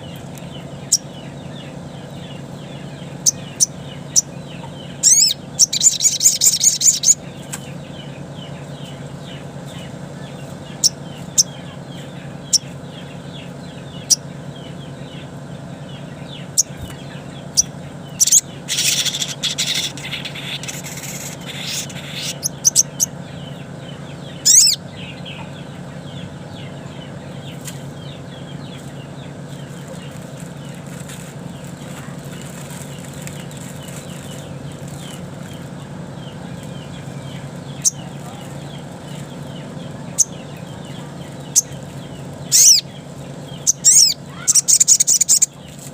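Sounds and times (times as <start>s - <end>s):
bird chips and chattering: 0.0s - 15.3s, 15.9s - 26.8s, 27.4s - 45.9s
loud bird call: 0.0s - 30.1s, 33.0s - 45.8s
faint background chirping: 0.0s - 45.9s
steady low hum: 0.0s - 45.9s.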